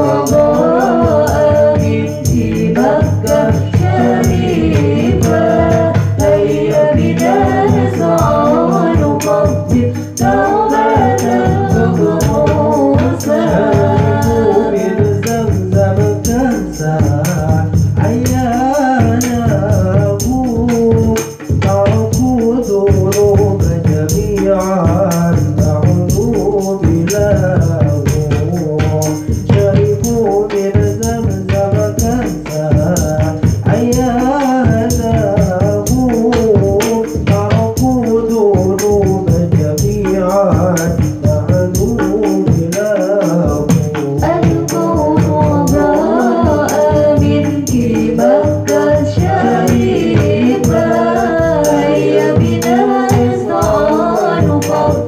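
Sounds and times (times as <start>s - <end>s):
frame drums struck by hand: 0.0s - 55.0s
person singing through microphone: 0.0s - 55.0s.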